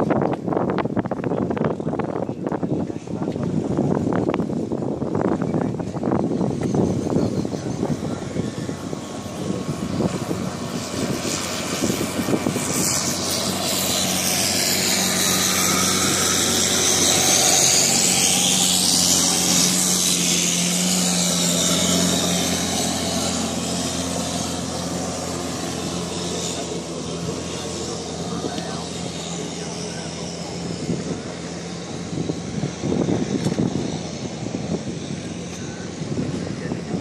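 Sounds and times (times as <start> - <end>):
boat engine running: 0.0 - 37.0
water rushing past hull: 0.0 - 37.0
wind rushing: 0.0 - 37.0.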